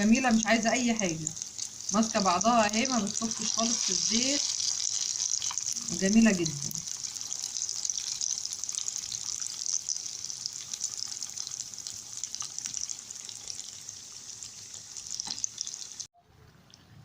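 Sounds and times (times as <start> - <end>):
patties deep-frying in hot oil: 0.0 - 16.2.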